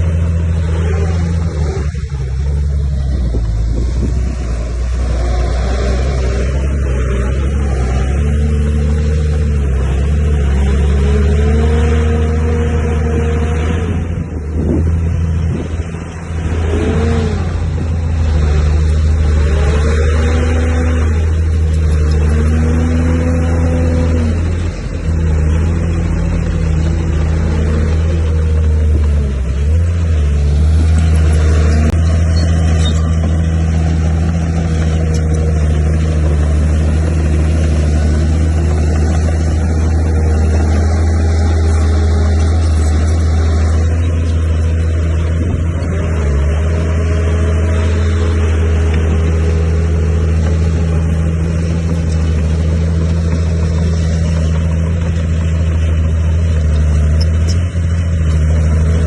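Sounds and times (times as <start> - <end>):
heavy diesel machinery revving: 0.0 - 59.0.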